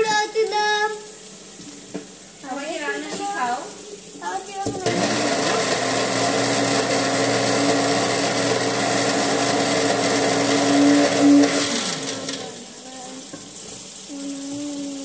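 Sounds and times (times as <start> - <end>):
kitchen appliance motor humming: 1.6 - 15.0.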